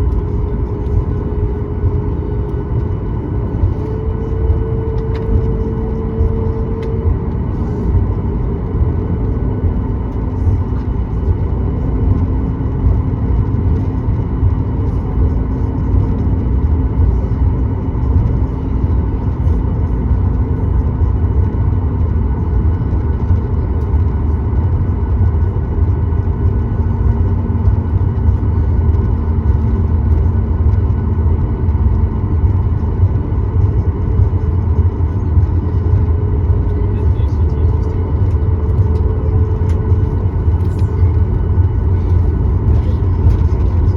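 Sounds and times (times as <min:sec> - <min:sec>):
airplane cabin rumble: 0:00.0 - 0:43.9
faint steady engine tones: 0:00.0 - 0:43.9.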